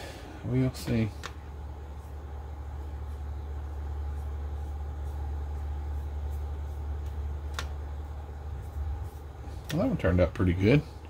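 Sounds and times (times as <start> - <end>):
faint steady whine: 0.0 - 11.0
low machine hum: 0.0 - 11.0.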